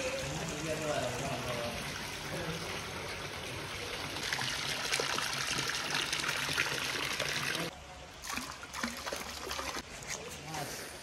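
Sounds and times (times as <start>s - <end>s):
water trickling and splashing: 0.0s - 10.9s.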